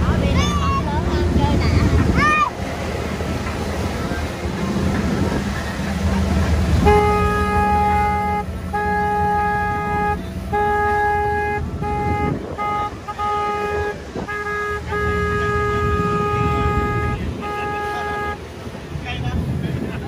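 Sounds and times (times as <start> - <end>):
boat horn honking: 0.0 - 19.3
water rushing past boat: 0.0 - 20.0
wind: 0.0 - 20.0.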